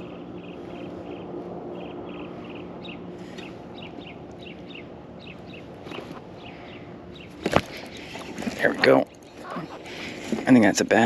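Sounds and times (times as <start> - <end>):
bird chirping: 0.0 - 10.4.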